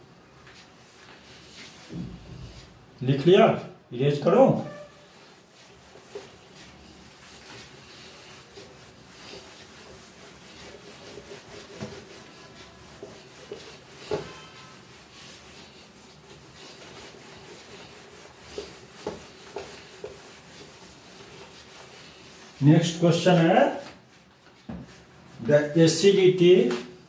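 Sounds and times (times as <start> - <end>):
cloth wiping whiteboard: 0.4 - 27.0.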